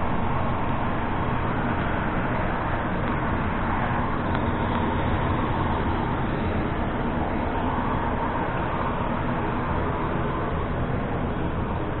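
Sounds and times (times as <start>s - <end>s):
roar of aircraft and ground equipment: 0.0s - 12.0s.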